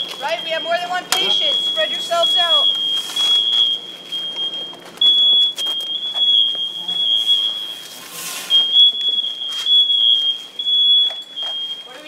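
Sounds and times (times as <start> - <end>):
high-pitched electronic alarm tone: 0.0 - 12.0.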